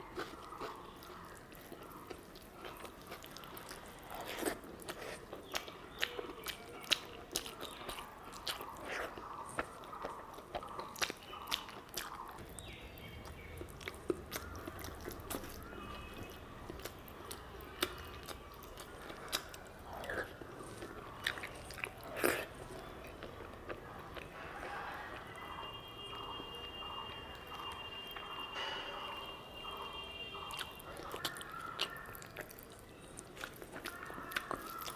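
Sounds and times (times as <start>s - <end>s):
person chewing and biting: 0.0s - 24.3s, 30.5s - 34.9s.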